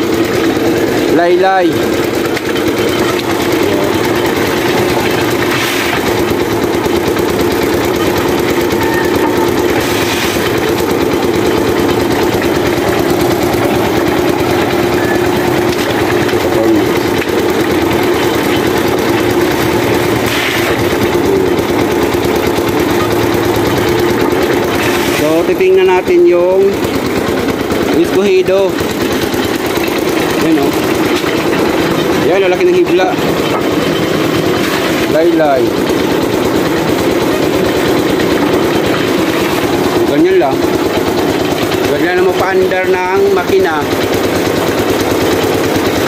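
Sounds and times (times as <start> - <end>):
small engine running: 0.0 - 46.0.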